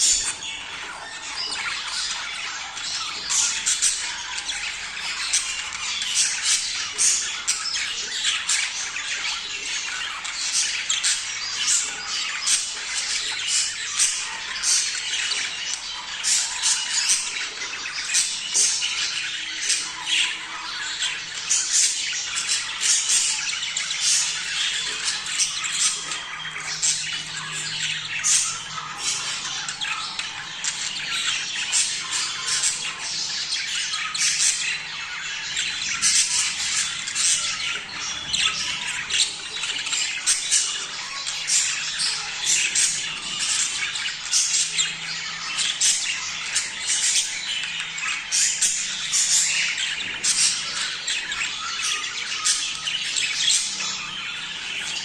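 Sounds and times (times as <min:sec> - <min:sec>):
budgerigars chattering and squawking: 0:00.0 - 0:55.0.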